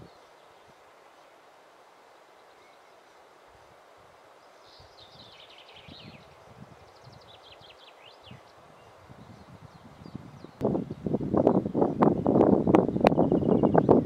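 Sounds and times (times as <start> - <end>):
songbird singing: 0.0 - 1.5, 2.1 - 14.0.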